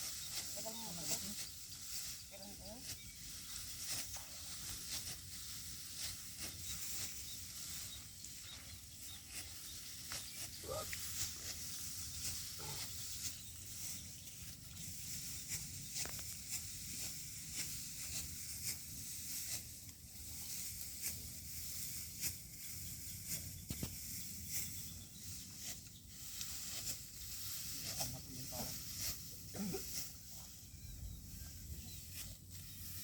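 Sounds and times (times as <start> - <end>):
dry rice stalks rustling: 0.0 - 33.0.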